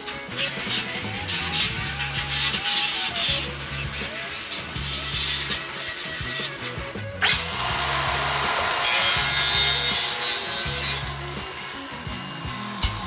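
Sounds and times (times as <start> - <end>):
angle grinder grinding steel: 0.0 - 13.0
background music with steady beat: 0.0 - 13.0.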